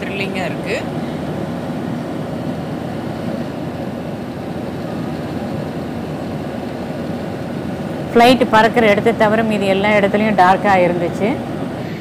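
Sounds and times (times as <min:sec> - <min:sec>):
jet cabin engine drone: 0:00.0 - 0:12.0.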